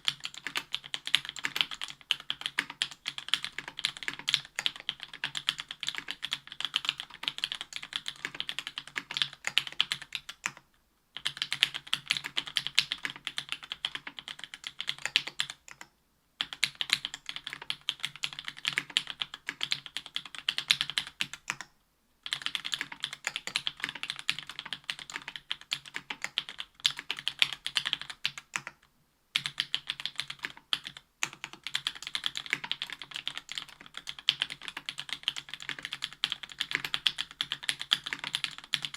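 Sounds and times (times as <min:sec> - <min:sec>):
mechanical keyboard typing: 0:00.0 - 0:10.6, 0:11.2 - 0:38.9.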